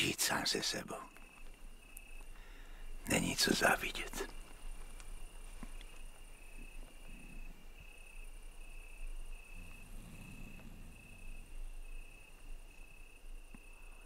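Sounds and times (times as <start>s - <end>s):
faint background hiss: 0.0s - 14.0s
insects chirping: 0.0s - 14.0s.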